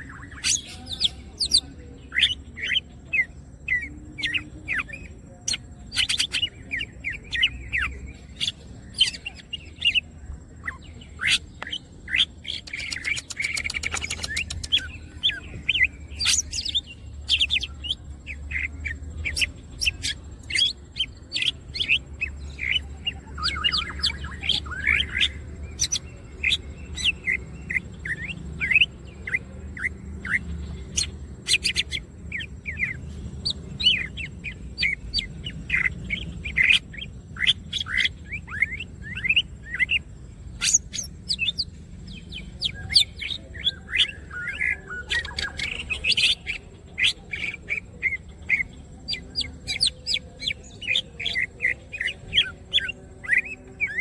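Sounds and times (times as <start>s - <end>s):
bird singing chirps and whistles: 0.0s - 54.0s
fast rattling bird trill: 0.0s - 54.0s.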